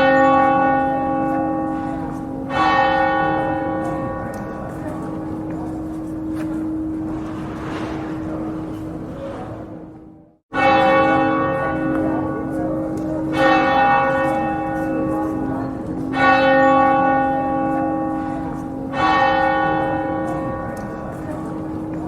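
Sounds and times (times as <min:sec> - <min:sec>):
church bell tolling: 0:00.0 - 0:22.0.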